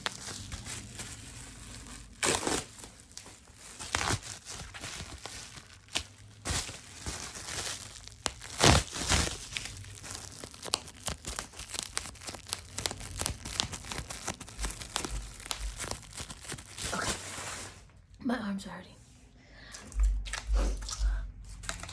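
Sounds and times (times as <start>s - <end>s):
packaging crinkling and crunching: 0.0s - 18.1s, 19.9s - 21.9s.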